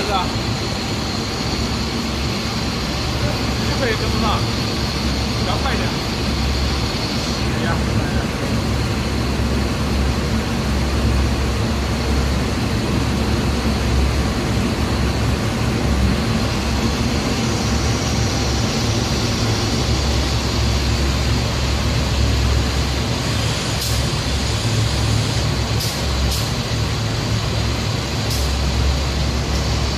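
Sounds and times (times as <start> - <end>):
machinery low hum: 0.0 - 29.9.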